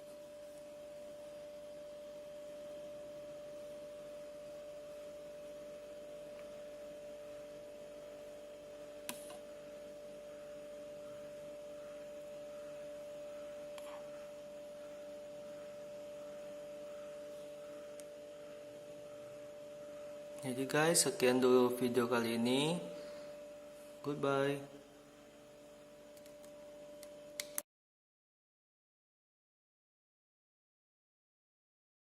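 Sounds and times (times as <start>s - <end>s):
steady electrical hum: 0.0s - 27.6s.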